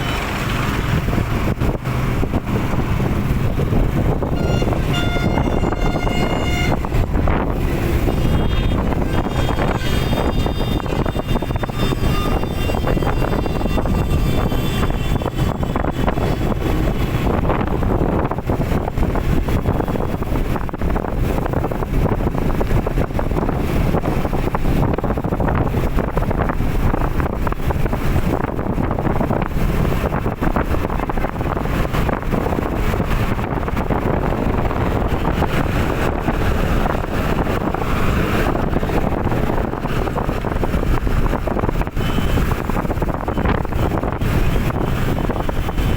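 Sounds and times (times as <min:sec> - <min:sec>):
vehicle road noise: 0:00.0 - 0:45.9
wind buffeting microphone: 0:00.0 - 0:45.9.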